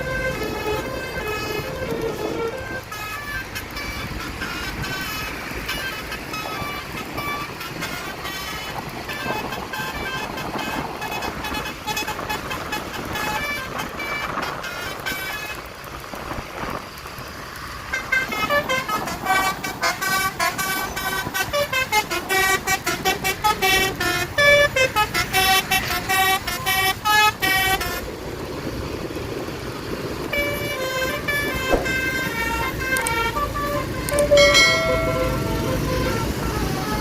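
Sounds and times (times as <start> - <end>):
multi-tone horn playing melody: 0.0 - 15.7, 17.9 - 28.1, 30.3 - 37.0
road and engine noise: 0.0 - 37.0.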